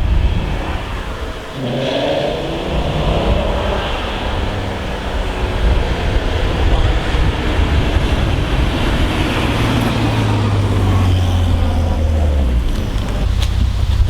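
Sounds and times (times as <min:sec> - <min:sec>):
car engine drone: 0:00.0 - 0:14.0
road noise: 0:00.0 - 0:14.0.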